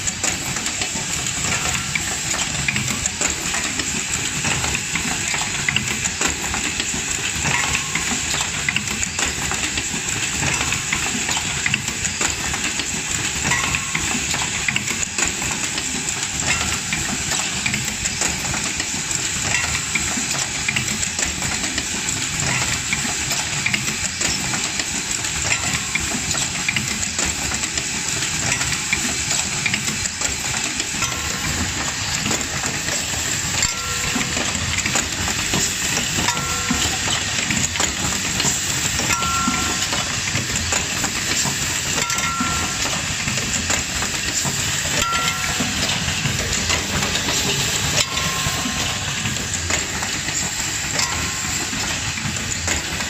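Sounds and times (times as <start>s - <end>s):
machine hissing and clattering: 0.0s - 53.0s.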